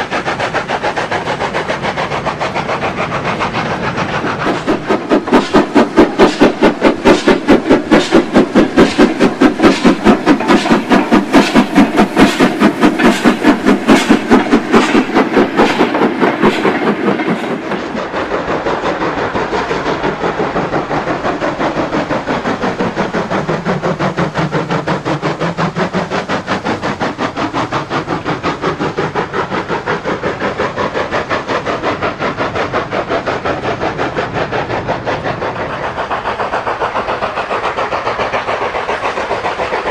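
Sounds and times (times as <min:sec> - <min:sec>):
model steam locomotive chugging: 0:00.0 - 0:39.9.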